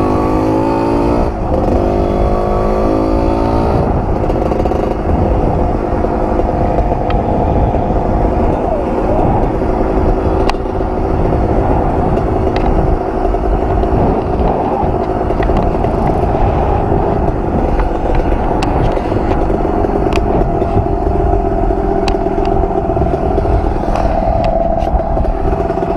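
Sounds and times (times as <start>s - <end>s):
two-stroke dirt bike engine running: 0.0s - 25.9s.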